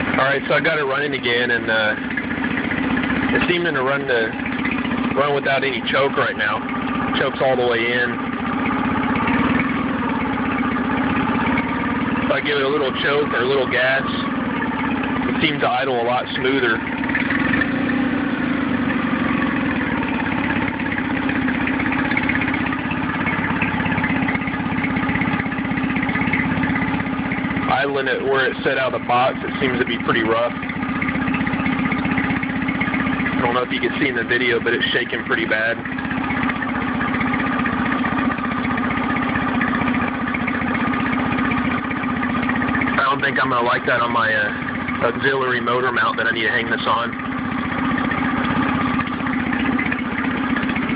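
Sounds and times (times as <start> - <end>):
outboard motor idling rough: 0.0 - 50.9.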